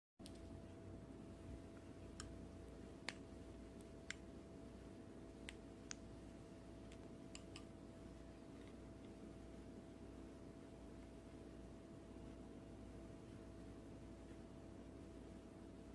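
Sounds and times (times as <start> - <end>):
low steady hum: 0.2 - 15.9.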